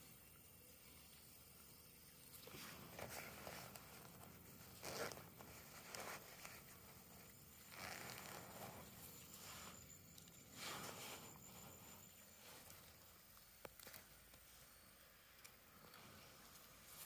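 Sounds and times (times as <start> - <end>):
faint rustling and scraping: 2.3 - 17.0.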